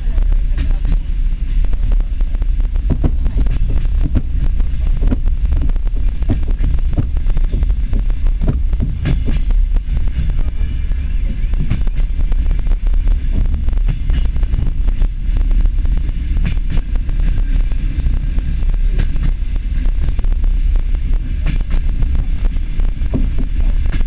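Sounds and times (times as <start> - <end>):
train rumbling and rattling: 0.0 - 24.0.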